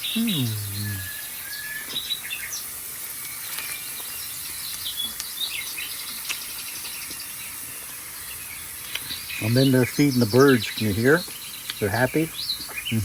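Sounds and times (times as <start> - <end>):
recorded birds chirping: 0.0 - 13.0
steady high hiss: 0.0 - 13.0.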